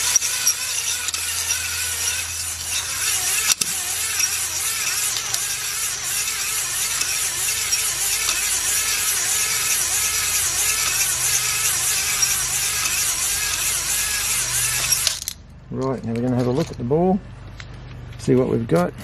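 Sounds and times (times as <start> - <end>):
cylinder hone grinding: 0.0 - 19.0.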